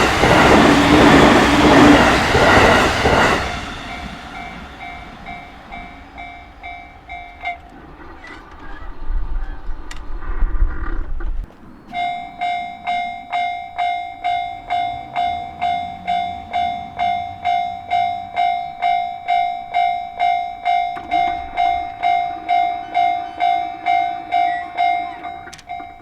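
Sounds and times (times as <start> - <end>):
level crossing bell clanging: 0.0 - 8.6, 11.9 - 26.0
train rumbling: 0.0 - 26.0.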